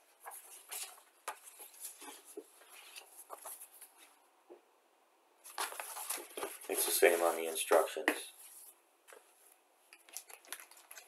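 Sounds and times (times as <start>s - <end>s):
paper rustling on a table: 0.1s - 4.2s, 5.4s - 11.0s.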